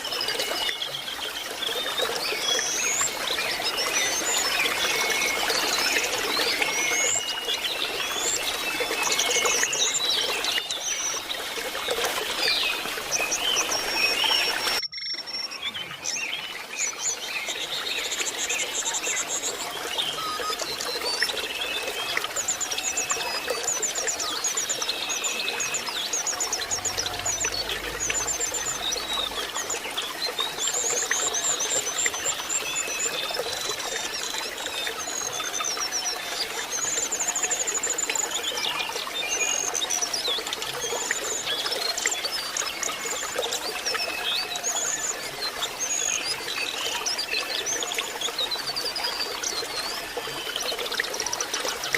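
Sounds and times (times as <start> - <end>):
bird singing trills and chirps: 0.0 - 51.9
trickling stream: 0.0 - 51.9.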